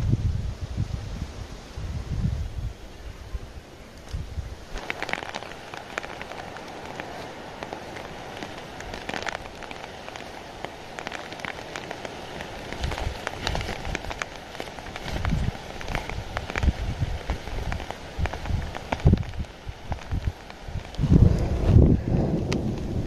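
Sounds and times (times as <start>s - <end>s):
rain falling: 0.0s - 23.0s
raindrops ticking on a surface: 3.9s - 23.0s.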